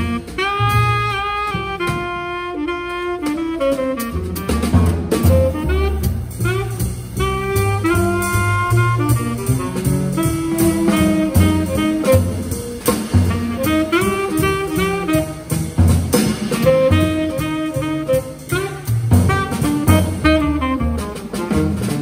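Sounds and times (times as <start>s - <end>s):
tenor saxophone melody: 0.0s - 21.7s
drum kit cymbals: 0.0s - 22.0s
plucked double bass: 0.0s - 22.0s.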